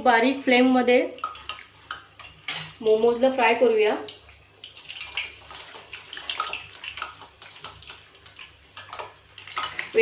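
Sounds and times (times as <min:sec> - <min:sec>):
hot oil crackling and sizzling: 0:00.1 - 0:10.0.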